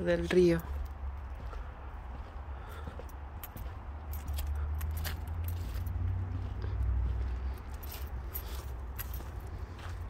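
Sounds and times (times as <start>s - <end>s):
footsteps on wooden planks: 0.1s - 10.0s.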